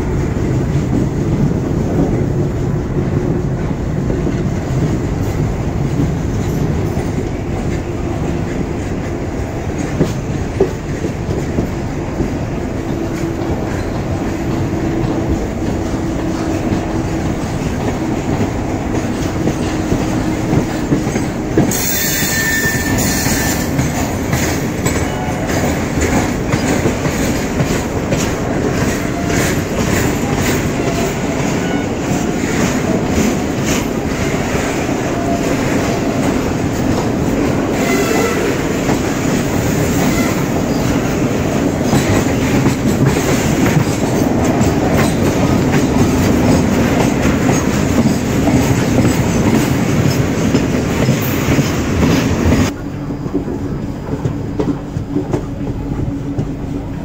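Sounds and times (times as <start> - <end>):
train coaches rumbling: 0.0 - 57.0
wheels clicking over rail joints: 3.2 - 56.7.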